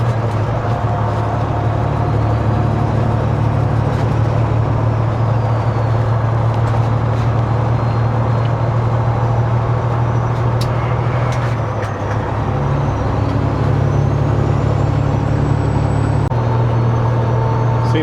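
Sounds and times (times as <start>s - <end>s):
truck diesel engine drone: 0.0s - 18.0s.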